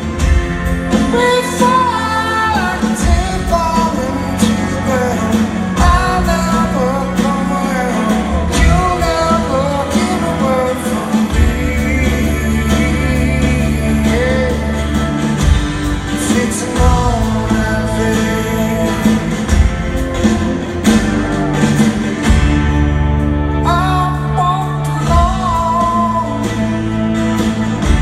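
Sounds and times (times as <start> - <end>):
person singing lead vocal: 0.0 - 22.4, 23.3 - 28.0
live rock band playing: 0.0 - 28.0.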